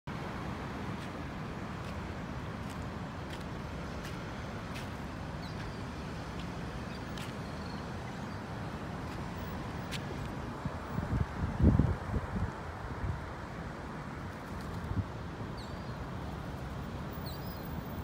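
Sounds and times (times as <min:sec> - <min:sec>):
road traffic noise: 0:00.1 - 0:18.0.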